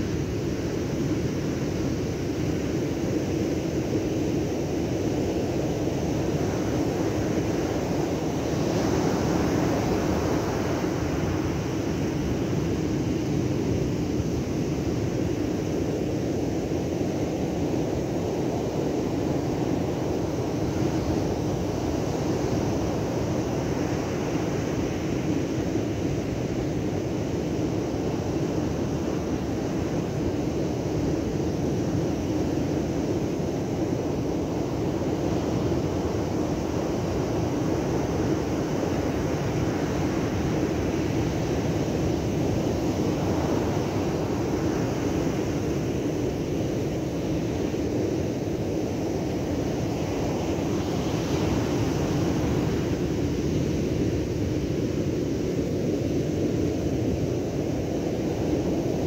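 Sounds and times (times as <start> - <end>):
heavy surf breaking on beach: 3.7 - 59.0.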